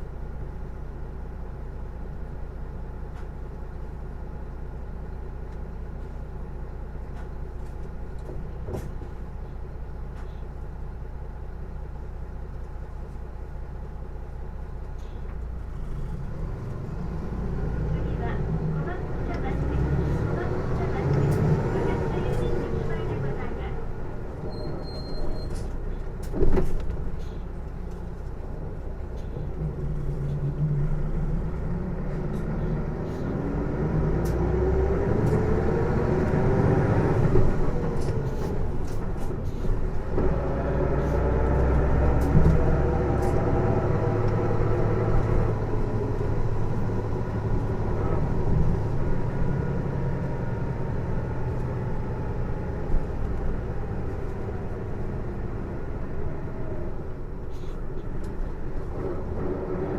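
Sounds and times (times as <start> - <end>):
diesel engine rumble: 0.0 - 59.9.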